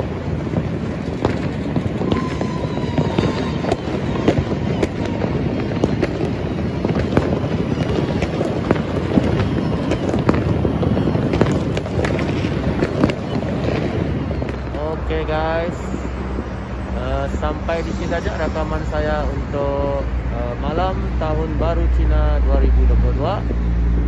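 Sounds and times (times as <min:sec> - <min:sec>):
firework bangs: 0:00.0 - 0:24.0
fireworks crackling and popping: 0:00.0 - 0:24.0.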